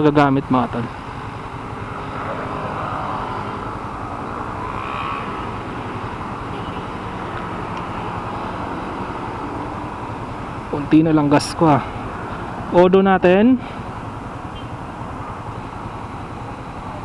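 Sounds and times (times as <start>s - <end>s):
idling motorcycles and cars: 0.0s - 17.0s.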